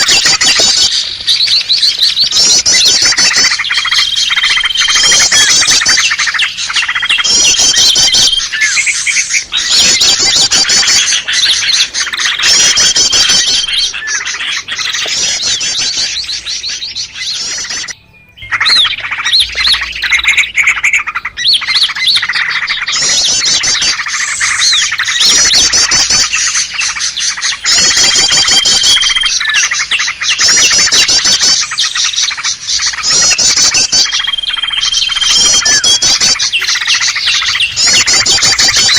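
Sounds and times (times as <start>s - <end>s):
songbirds calling and trilling: 0.0s - 38.9s.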